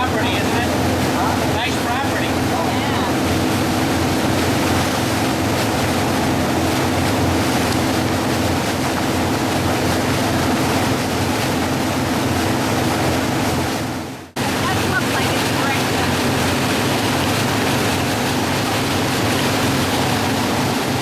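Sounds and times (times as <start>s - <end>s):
motorboat engine drone: 0.0s - 21.0s
water rushing past hull: 0.0s - 21.0s.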